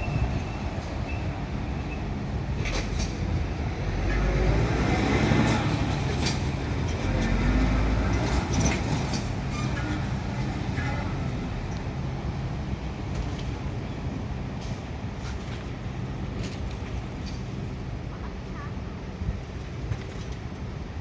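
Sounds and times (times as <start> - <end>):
diesel locomotive rumble: 0.0 - 21.0.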